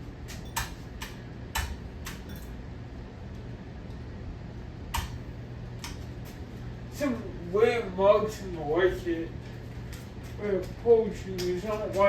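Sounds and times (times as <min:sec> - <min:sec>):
ceiling fan clicking: 0:00.0 - 0:12.0
ceiling fan humming: 0:00.0 - 0:12.0.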